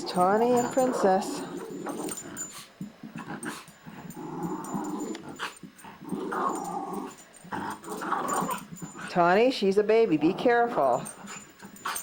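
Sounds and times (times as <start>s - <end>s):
dogs growling: 0.0s - 9.4s, 10.1s - 12.0s.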